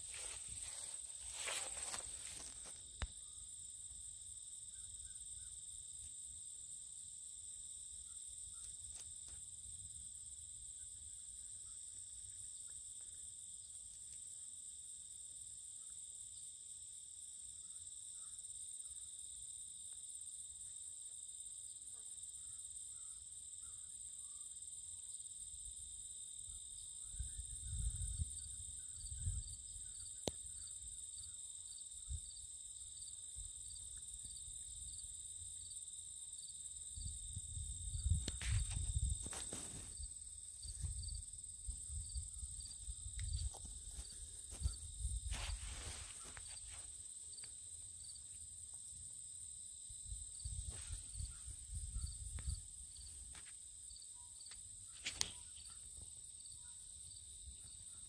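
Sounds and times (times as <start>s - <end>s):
insects trilling: 0.0s - 14.5s, 21.6s - 58.0s.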